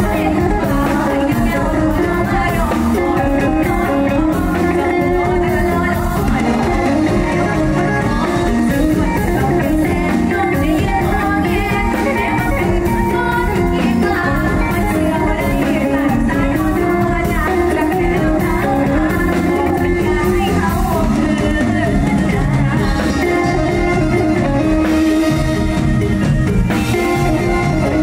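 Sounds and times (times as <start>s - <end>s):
girl singing into a microphone: 0.0s - 24.6s
amplified band music with guitar: 0.0s - 28.0s.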